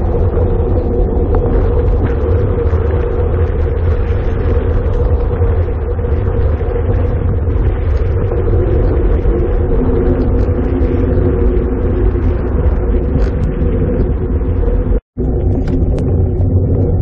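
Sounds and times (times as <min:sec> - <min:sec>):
wind over microphone: 0:00.0 - 0:17.0.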